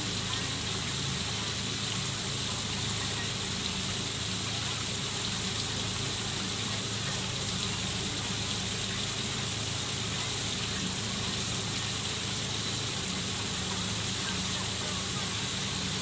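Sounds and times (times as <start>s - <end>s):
small waterfall into pond: 0.0s - 16.0s.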